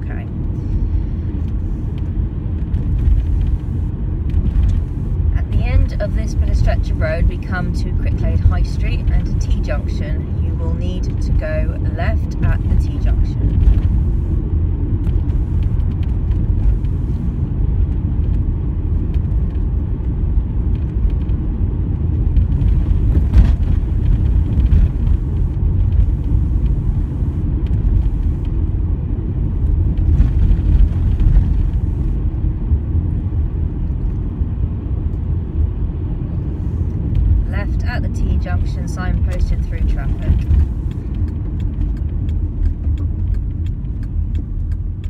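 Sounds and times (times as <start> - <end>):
car engine and tyres rumbling: 0.0 - 45.0.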